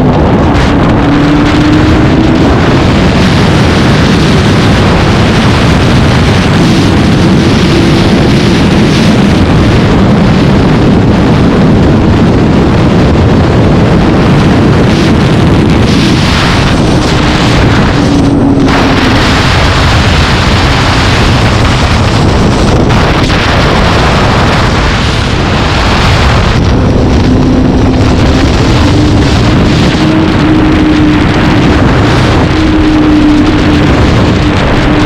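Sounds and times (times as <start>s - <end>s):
vehicle engine hum: 0.0s - 35.0s
wind buffeting microphone: 0.0s - 35.0s.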